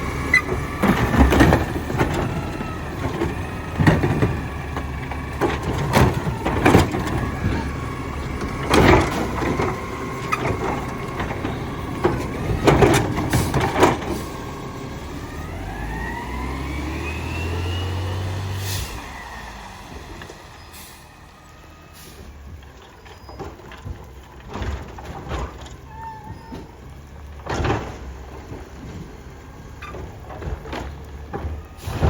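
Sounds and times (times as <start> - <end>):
trash thumping into hopper: 0.0 - 16.3, 21.9 - 32.0.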